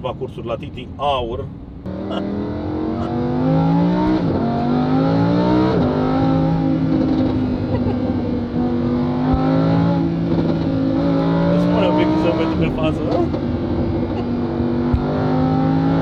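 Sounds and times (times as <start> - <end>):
sports car engine accelerating hard: 1.8 - 16.0.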